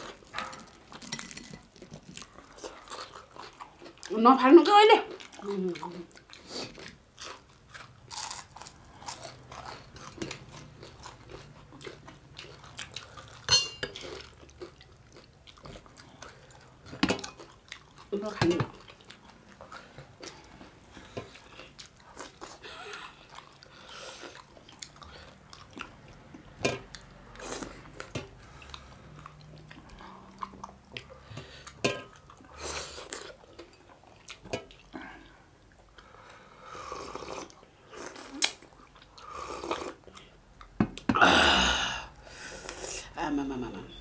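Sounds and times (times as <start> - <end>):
wet chewing and lip smacking: 0.0 - 4.2, 5.0 - 36.4, 37.3 - 41.1.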